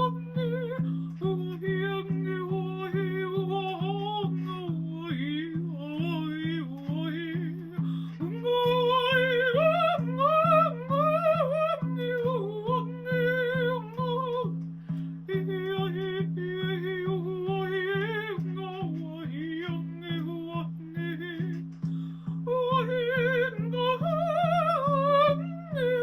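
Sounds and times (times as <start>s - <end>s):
woman singing wordless vocals: 0.0s - 14.6s, 15.2s - 26.0s.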